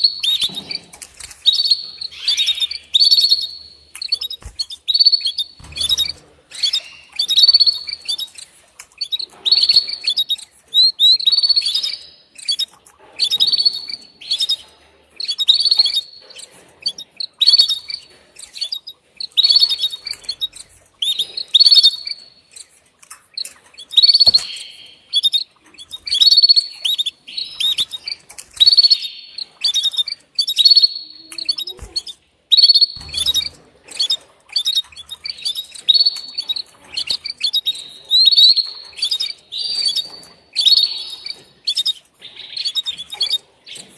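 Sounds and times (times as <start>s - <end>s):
canary chirping: 0.0s - 43.9s.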